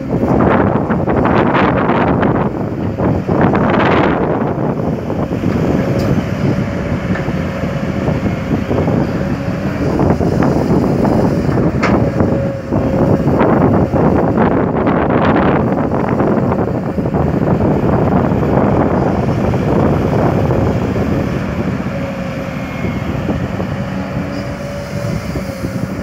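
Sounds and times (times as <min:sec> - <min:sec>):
excavator diesel engine under load: 0:00.0 - 0:26.0
wind buffeting microphone: 0:00.0 - 0:26.0.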